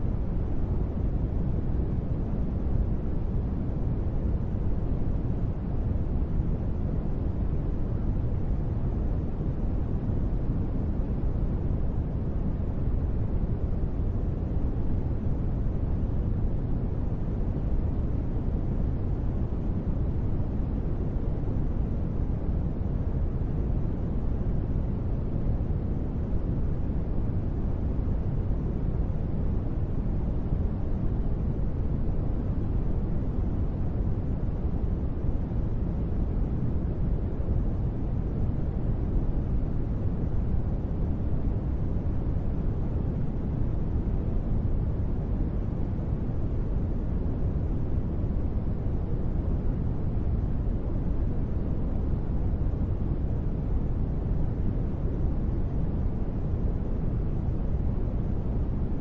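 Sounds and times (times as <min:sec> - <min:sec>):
deep muffled steady noise: 0:00.0 - 0:59.0.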